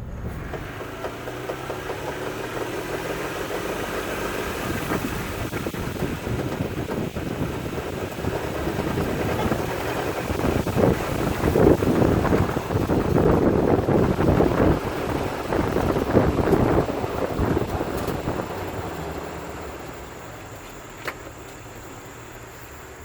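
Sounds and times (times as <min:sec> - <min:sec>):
rapid drivetrain knocking: 0:00.0 - 0:22.4
car engine running: 0:00.0 - 0:23.0.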